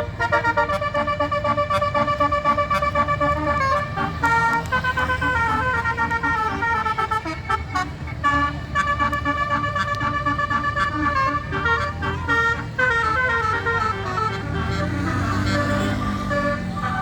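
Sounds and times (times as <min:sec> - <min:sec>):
bus musical horn playing tune: 0:00.0 - 0:17.0
engines and traffic rumble: 0:00.0 - 0:17.0.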